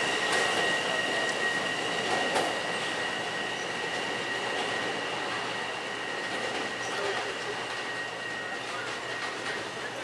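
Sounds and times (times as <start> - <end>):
train braking squeal: 0.0 - 10.0
train wheels clicking: 0.0 - 10.0.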